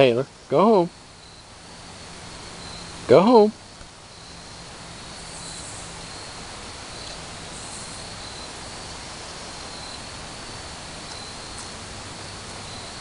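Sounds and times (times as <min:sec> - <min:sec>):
insects chirring: 0:00.0 - 0:13.0
outdoor hiss: 0:00.0 - 0:13.0.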